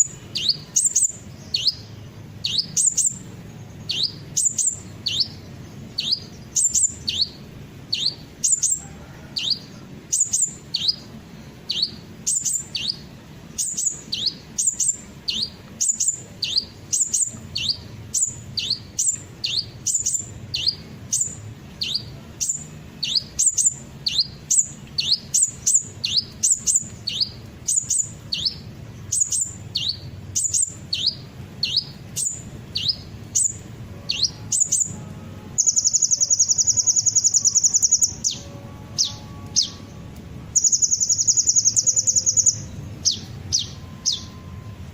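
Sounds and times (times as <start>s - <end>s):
high-pitched bird chirps: 0.0s - 44.9s.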